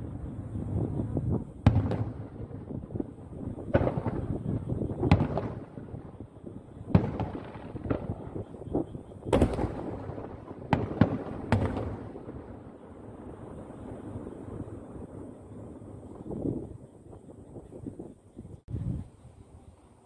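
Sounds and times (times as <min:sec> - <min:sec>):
fireworks booming: 0:00.0 - 0:18.1.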